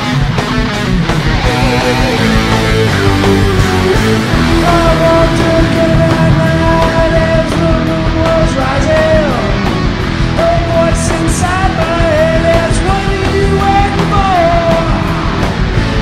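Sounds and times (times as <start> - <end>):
electric lead guitar: 0.0 - 16.0
rock band playing: 0.0 - 16.0.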